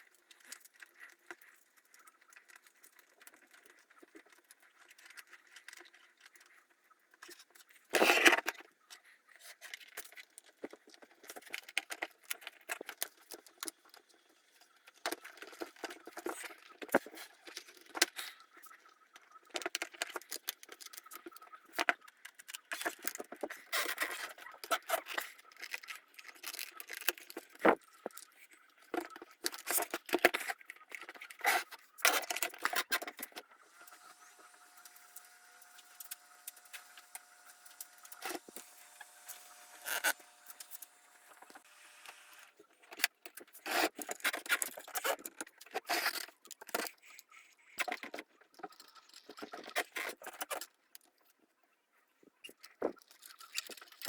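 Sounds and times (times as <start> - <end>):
small parts clicking and rattling: 0.0 - 51.4, 52.4 - 54.0.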